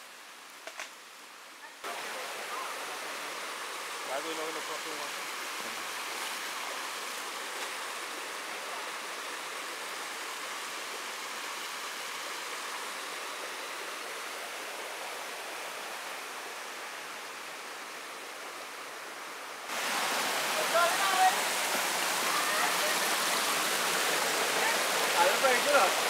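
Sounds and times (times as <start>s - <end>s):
stream flowing over rocks: 0.0s - 26.0s.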